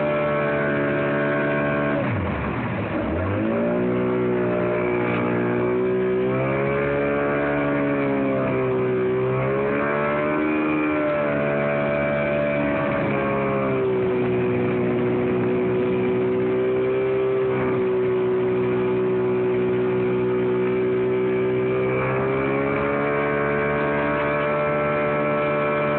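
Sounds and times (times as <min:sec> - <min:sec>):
outboard motor running: 0:00.0 - 0:25.9.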